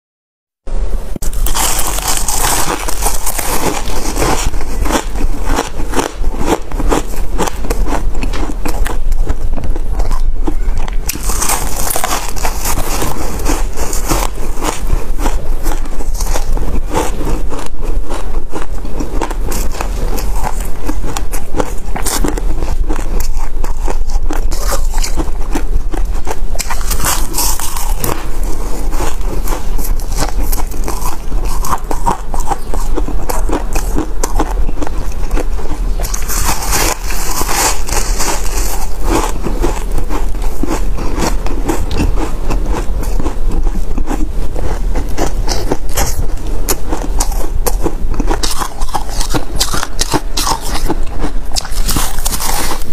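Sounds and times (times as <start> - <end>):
ice crunching while chewed: 1.2 - 52.9.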